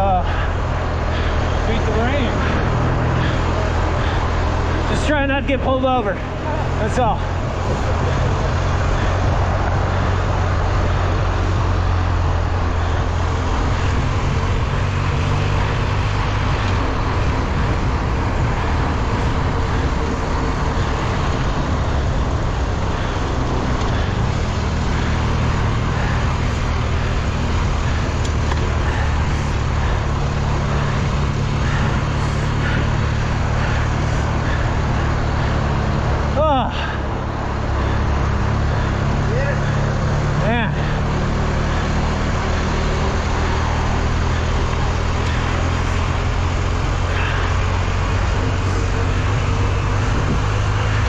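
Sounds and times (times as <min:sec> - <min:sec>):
bike riding noise: 0:00.0 - 0:51.0
wind rushing on microphone: 0:06.2 - 0:41.1, 0:41.8 - 0:51.0.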